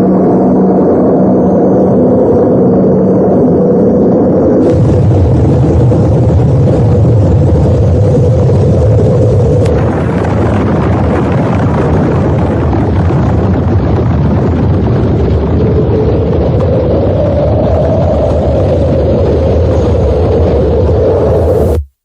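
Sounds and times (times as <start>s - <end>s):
explosion rumbling: 0.0s - 21.9s.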